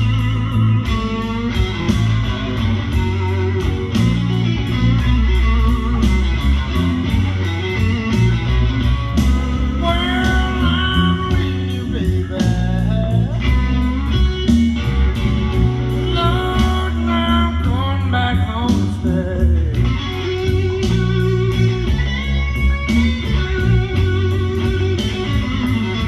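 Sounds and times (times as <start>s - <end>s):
bending guitar melody line: 0.0s - 26.0s
blues-rock band playing: 0.0s - 26.0s.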